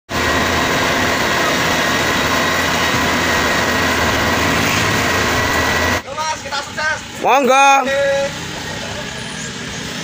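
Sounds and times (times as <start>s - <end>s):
combine harvester engine running: 0.1s - 10.0s.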